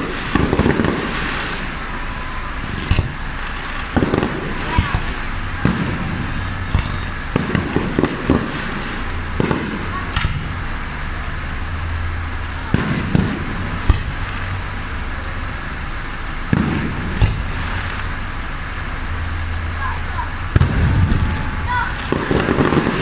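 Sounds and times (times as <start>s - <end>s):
background rumble: 0.0s - 23.0s
firework shells bursting: 0.0s - 23.0s.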